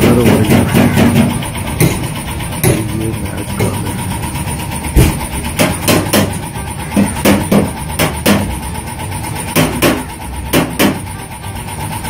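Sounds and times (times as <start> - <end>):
sharp knocks and clatter: 0.0 - 8.6, 9.2 - 11.1
vehicle engine running: 0.0 - 12.0.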